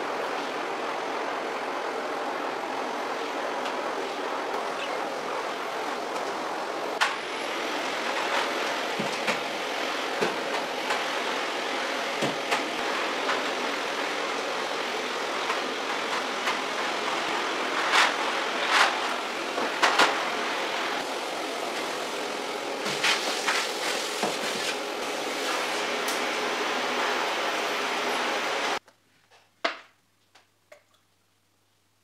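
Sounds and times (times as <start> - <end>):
vacuum cleaner running: 0.0 - 28.8.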